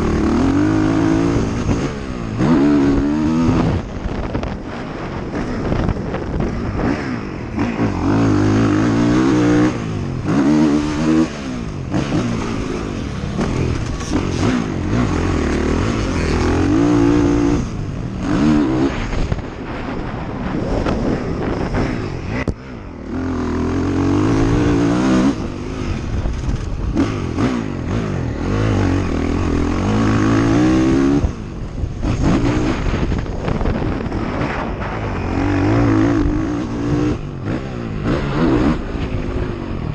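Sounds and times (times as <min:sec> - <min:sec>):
off-road vehicle engine revving: 0:00.0 - 0:04.5, 0:06.8 - 0:19.1, 0:21.4 - 0:39.5
wind noise on microphone: 0:00.0 - 0:39.9.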